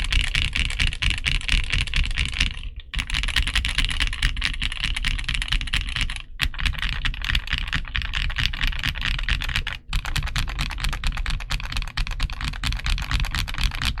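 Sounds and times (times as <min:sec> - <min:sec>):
mechanical keyboard typing: 0:00.0 - 0:14.0.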